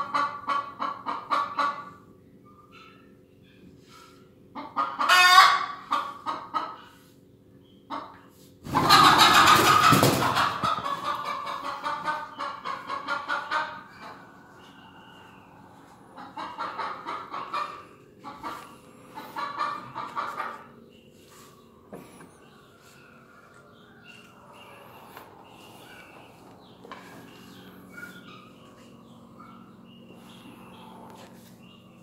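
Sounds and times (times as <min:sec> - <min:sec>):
hen clucking and squawking: 0:00.0 - 0:02.0, 0:04.5 - 0:07.0, 0:07.8 - 0:31.9.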